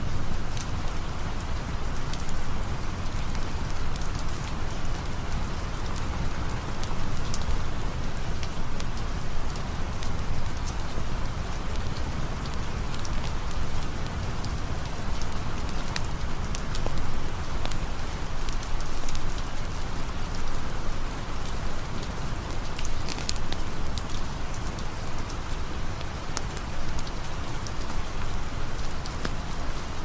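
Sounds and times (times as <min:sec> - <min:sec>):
sharp ticks of raindrops: 0:00.0 - 0:30.0
steady rain falling: 0:00.0 - 0:30.0.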